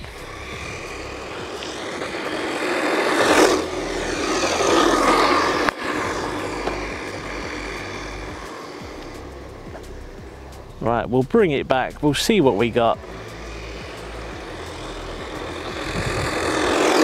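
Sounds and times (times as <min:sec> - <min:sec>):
rc truck motor whine: 0:00.0 - 0:17.0
tyre noise: 0:00.0 - 0:17.0.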